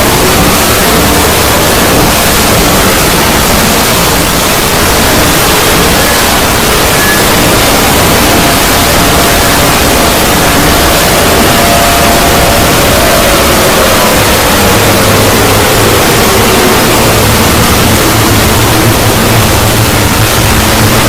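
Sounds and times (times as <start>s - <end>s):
loud static-like hiss: 0.0s - 21.0s.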